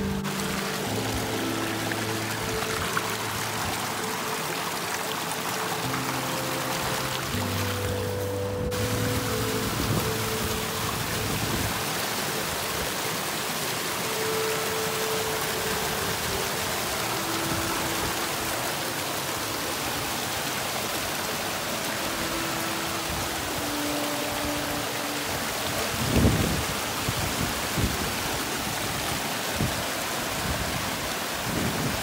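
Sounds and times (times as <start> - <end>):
faint held musical notes: 0.0 - 28.3.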